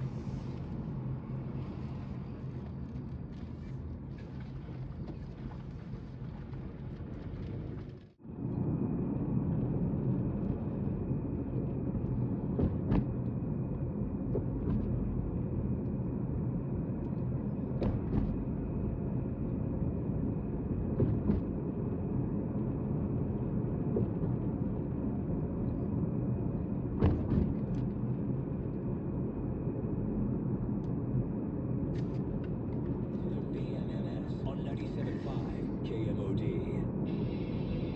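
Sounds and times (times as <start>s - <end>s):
car cabin road rumble: 0.0s - 37.9s.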